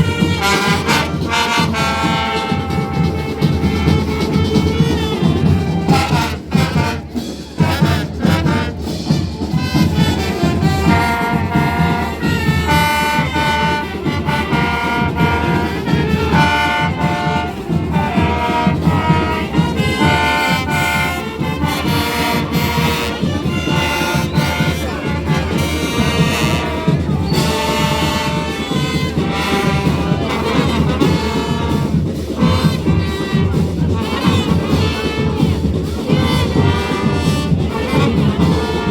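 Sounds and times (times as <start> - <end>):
steady drum beat: 0.0 - 38.9
trumpets and trombones melody: 0.0 - 38.9.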